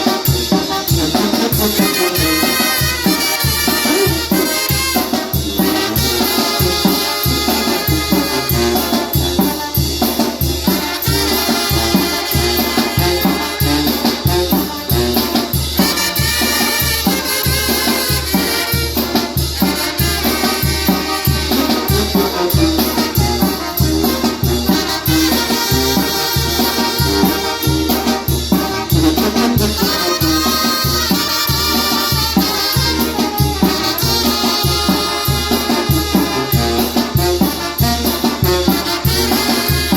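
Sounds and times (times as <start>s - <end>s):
bass and percussion beat: 0.0s - 39.9s
trumpet melody: 0.0s - 39.9s.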